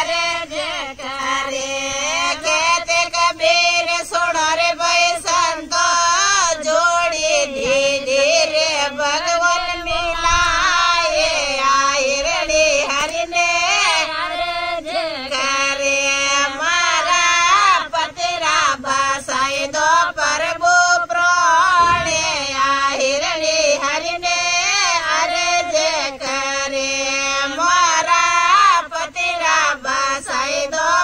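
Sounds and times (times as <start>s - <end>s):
women singing devotional song: 0.0s - 31.0s.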